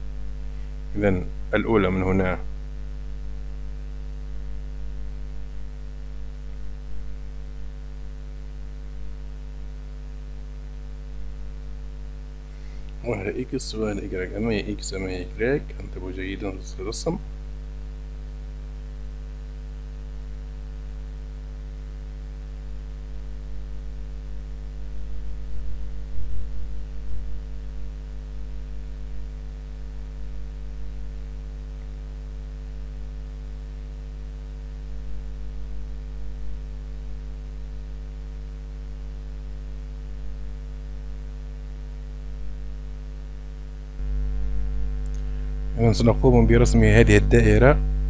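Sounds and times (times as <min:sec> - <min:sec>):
electrical mains hum: 0:00.0 - 0:48.0.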